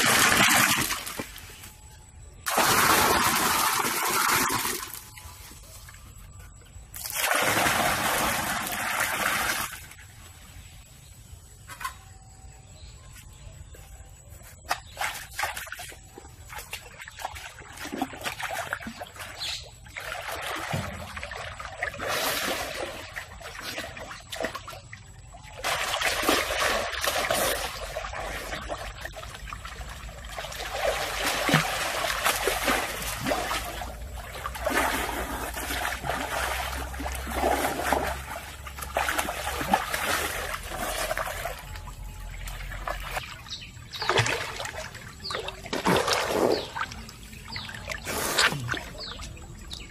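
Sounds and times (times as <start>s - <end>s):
water trickling and splashing: 0.0s - 10.8s, 14.5s - 49.9s.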